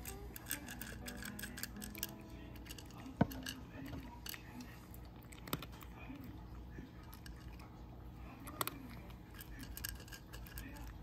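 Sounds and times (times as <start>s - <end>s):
cat crunching dry kibble: 0.0s - 11.0s.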